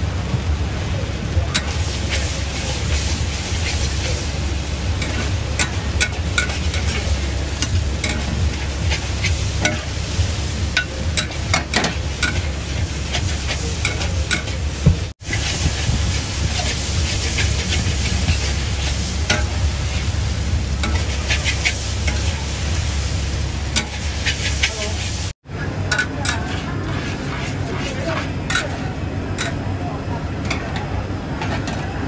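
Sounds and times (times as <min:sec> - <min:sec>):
gas burner low rumble: 0:00.0 - 0:32.0
noodles sizzling in a wok: 0:01.5 - 0:32.0
metal ladle scraping wok: 0:01.6 - 0:04.4, 0:05.0 - 0:25.3, 0:25.9 - 0:29.7.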